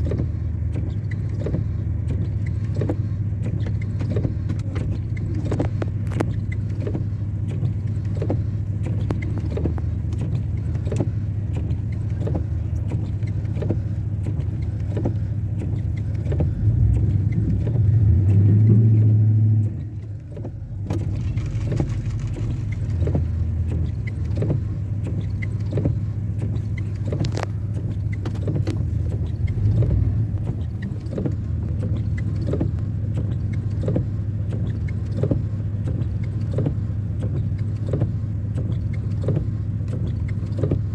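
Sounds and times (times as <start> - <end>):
vehicle road rumble: 0.0 - 40.9.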